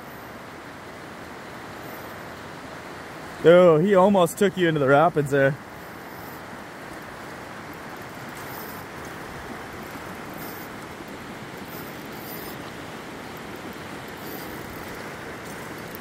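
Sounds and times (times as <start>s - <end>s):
river rushing through rapids: 0.1s - 16.0s.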